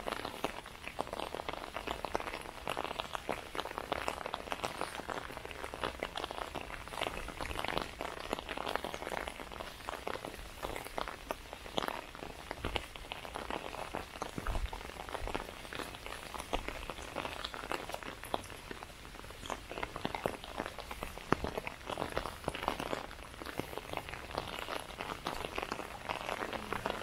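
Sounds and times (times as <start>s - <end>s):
rain pattering on umbrella: 0.0s - 27.0s.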